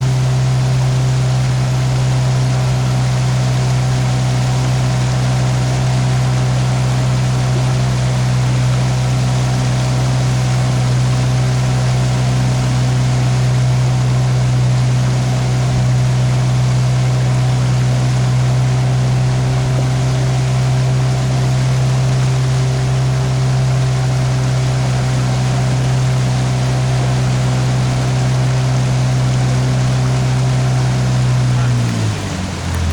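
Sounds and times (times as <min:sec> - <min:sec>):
boat motor running: 0:00.0 - 0:32.9
water rushing: 0:00.1 - 0:32.9.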